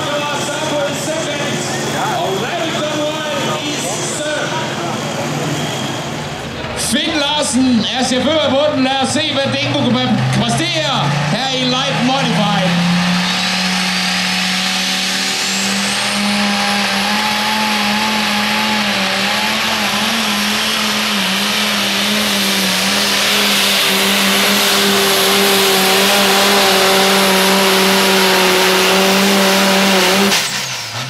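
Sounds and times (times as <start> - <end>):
high turbo whine: 0.0 - 31.0
tractor engine at full throttle: 0.0 - 31.0.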